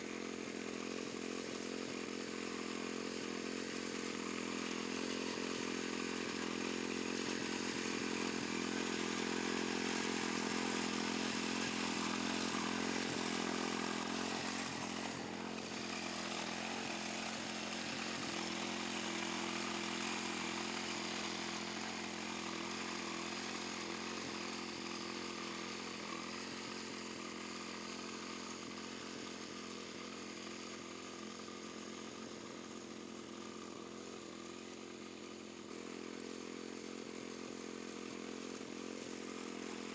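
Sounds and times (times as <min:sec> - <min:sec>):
tractor mower cutting grass: 0:00.0 - 0:39.9.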